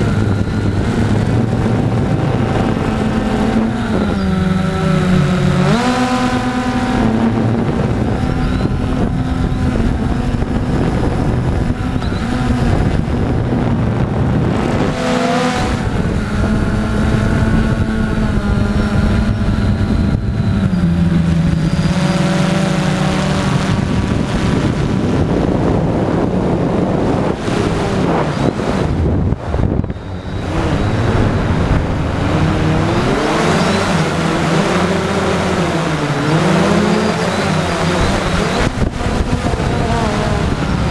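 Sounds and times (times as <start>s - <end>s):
drone motors and propellers humming: 0.0s - 40.9s.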